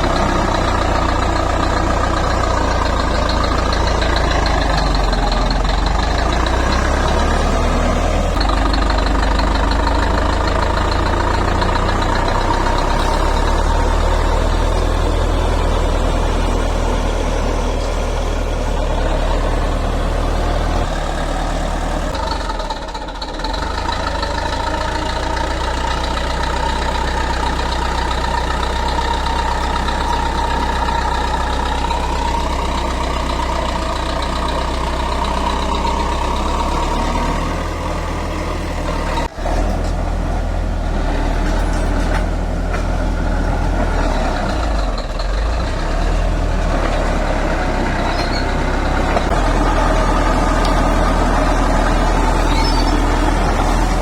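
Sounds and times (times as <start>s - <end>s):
construction machine engine running: 0.0s - 54.0s.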